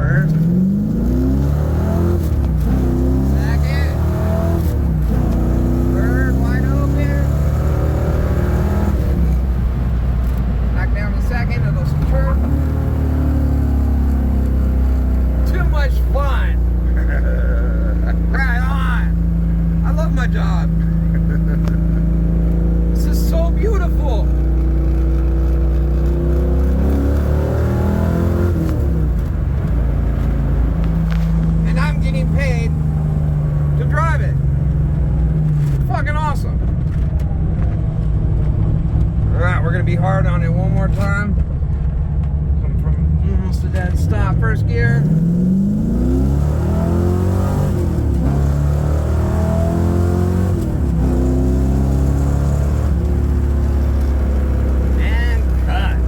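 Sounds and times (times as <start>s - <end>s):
car engine pulling under load: 0.0s - 56.0s.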